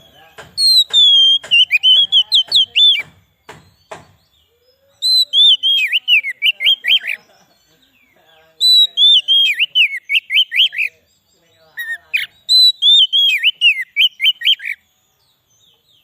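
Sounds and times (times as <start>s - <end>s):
bird singing whistled notes: 0.0s - 16.0s.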